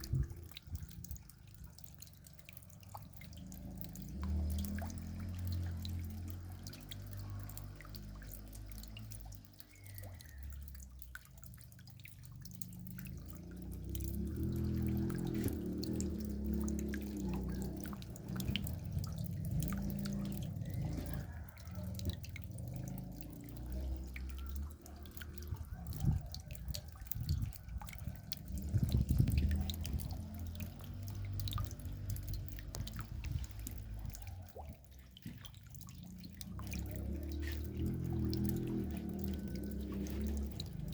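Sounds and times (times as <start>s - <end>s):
raindrops dripping: 0.0s - 40.9s.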